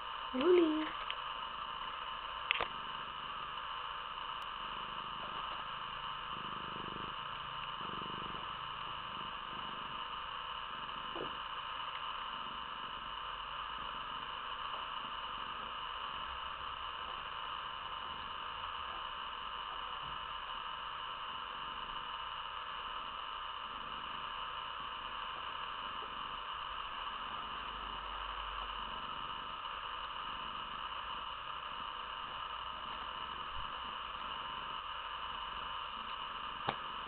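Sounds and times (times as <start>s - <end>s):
electronic hiss: 0.0s - 37.0s
faint hum: 0.0s - 37.0s.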